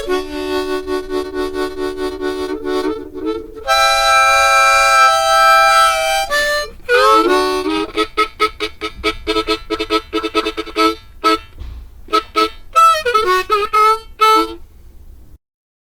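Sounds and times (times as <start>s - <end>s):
harmonica playing: 0.0s - 14.7s.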